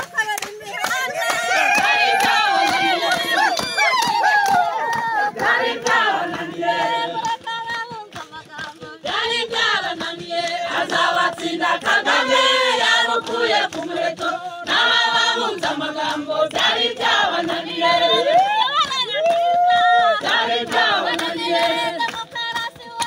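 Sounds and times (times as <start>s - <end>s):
women singing in chorus: 0.6s - 23.0s
short sharp beats: 1.2s - 23.0s.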